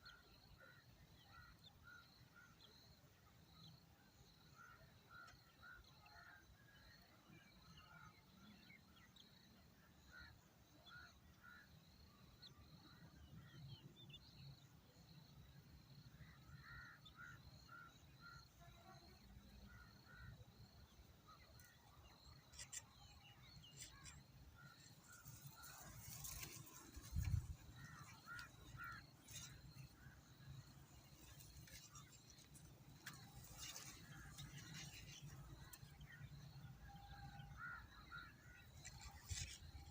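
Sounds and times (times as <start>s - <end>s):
faint bird chirps: 0.0s - 39.9s.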